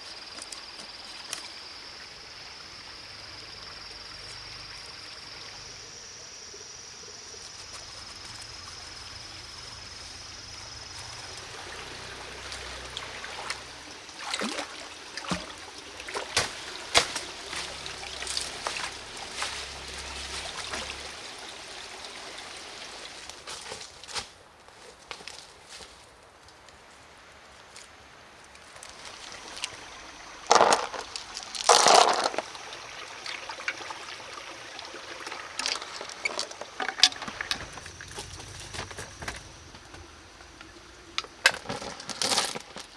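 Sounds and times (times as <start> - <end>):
water running: 0.2 - 23.8, 28.8 - 42.9.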